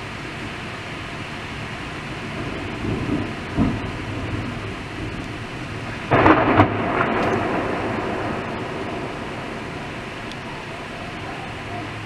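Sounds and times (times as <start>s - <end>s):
rain: 0.0s - 12.0s
thunderclap and rumble: 0.0s - 12.0s
wind through trees: 0.0s - 12.0s.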